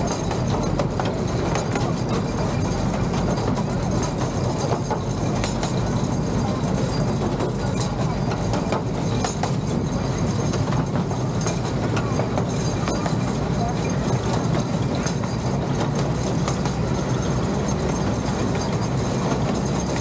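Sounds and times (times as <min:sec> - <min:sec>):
miniature train rumbling: 0:00.0 - 0:20.0.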